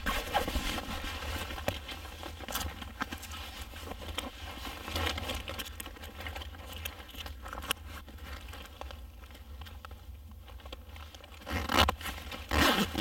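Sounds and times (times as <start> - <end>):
rustling cloth: 0.0 - 13.0.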